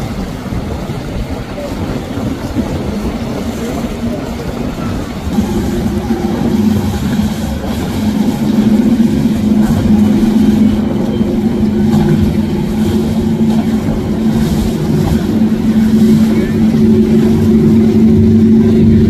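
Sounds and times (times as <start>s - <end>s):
outboard motor drone: 0.0s - 19.0s
water rushing from boat hull: 0.0s - 19.0s.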